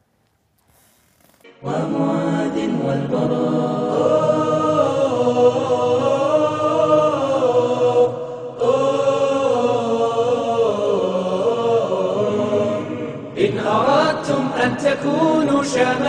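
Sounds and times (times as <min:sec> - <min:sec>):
voices singing long held notes: 0:01.5 - 0:16.0.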